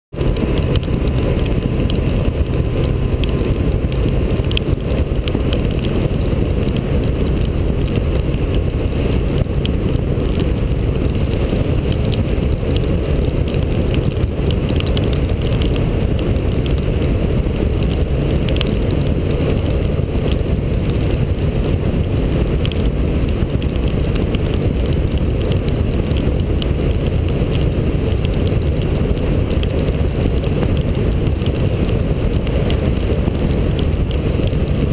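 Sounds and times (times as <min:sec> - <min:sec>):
motorcycle engine running: 0:00.1 - 0:34.9
wind rushing on helmet: 0:00.1 - 0:34.9.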